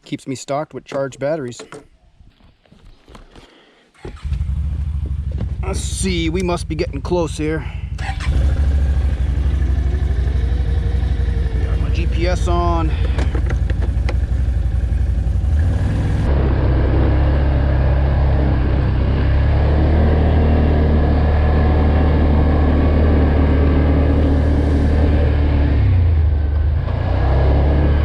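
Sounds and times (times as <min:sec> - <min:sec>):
quad engine running: 0:04.0 - 0:28.0.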